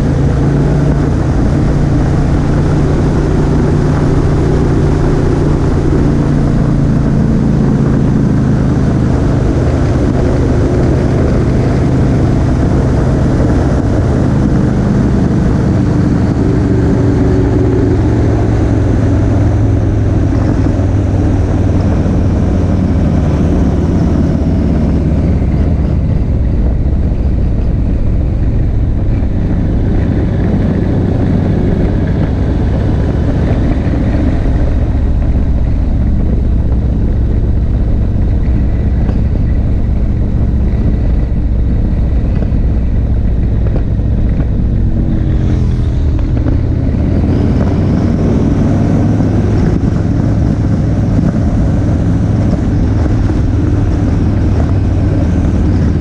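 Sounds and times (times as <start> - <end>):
motorcycle engine drone: 0.0 - 56.0
wind rumble on microphone: 0.0 - 56.0.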